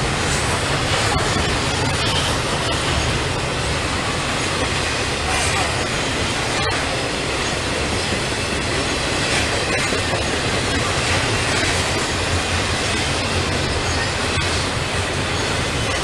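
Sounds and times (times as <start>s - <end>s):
freight train cars rolling past: 0.0s - 16.0s.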